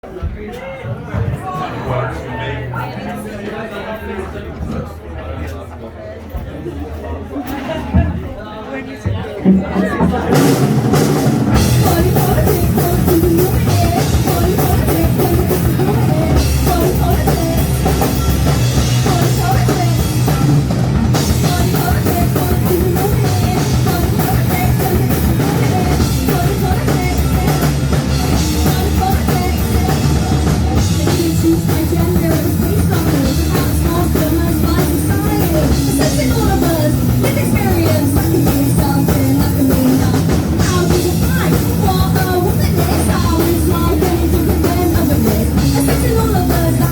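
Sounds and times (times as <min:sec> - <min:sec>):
drum kit: 0:09.1 - 0:46.9
punk rock band playing: 0:09.4 - 0:46.9.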